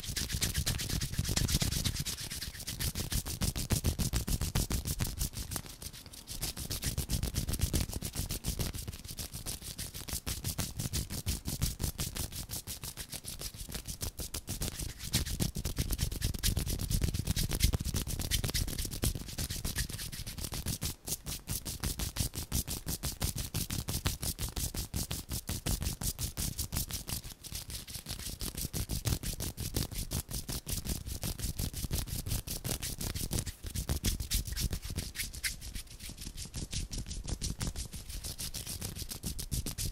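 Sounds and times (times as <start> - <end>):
palms rubbing together: 0.0 - 23.8, 24.4 - 39.9.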